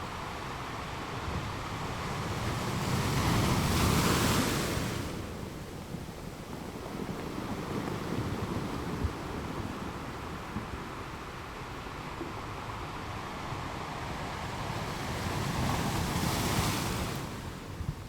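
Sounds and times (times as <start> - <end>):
steady rush of water: 0.0 - 18.0.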